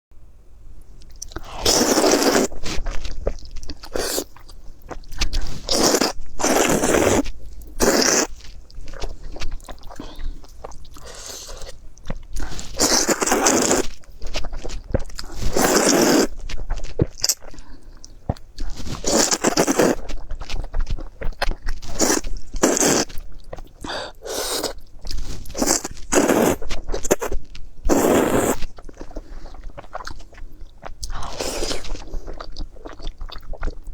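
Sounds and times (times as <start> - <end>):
person chewing crunchy food: 1.0 - 33.9.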